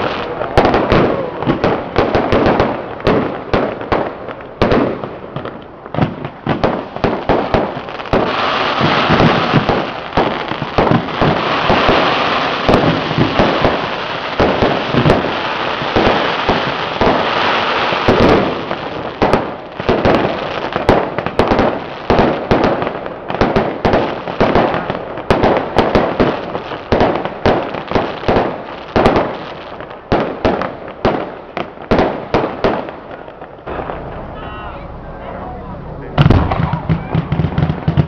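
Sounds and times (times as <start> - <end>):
firecrackers crackling and banging: 0.0 - 34.6, 36.0 - 38.0.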